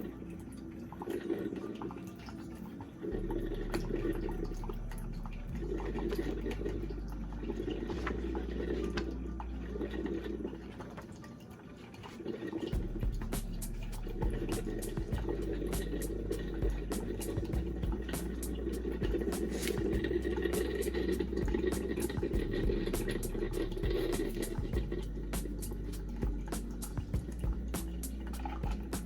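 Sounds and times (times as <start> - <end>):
background music: 0.0 - 29.0
coffee maker gurgling and dripping: 0.0 - 29.0.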